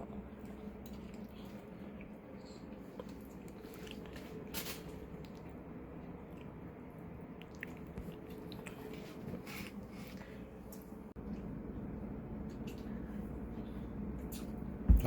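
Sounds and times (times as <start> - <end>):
wet chewing of food: 0.0 - 14.6
low steady hum: 0.0 - 15.0.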